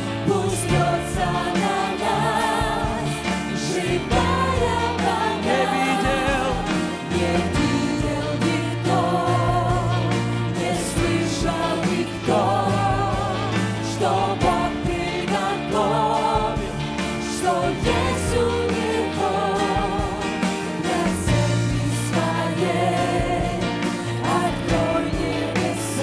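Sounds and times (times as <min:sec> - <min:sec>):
bass guitar: 0:00.0 - 0:26.0
keyboard: 0:00.0 - 0:26.0
singers holding long notes: 0:00.0 - 0:26.0.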